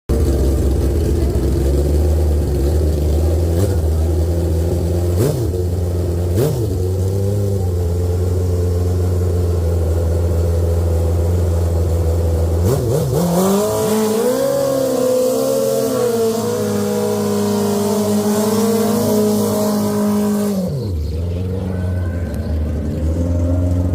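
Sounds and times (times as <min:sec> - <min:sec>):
motorcycle engine idling and revving: 0:00.1 - 0:23.9.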